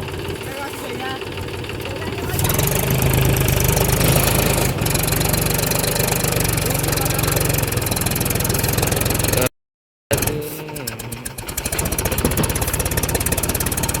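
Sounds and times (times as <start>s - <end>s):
tractor diesel engine under load: 0.0s - 9.5s, 10.1s - 14.0s.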